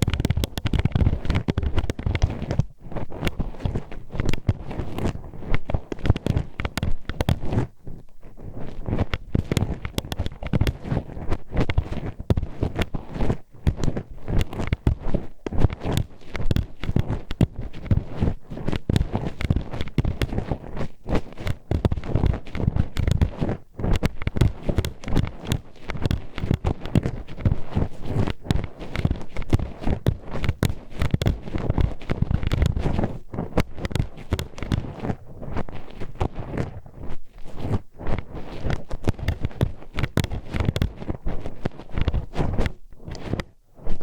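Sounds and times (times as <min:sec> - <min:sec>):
hairpin scraping microphone: 0:00.0 - 0:44.0.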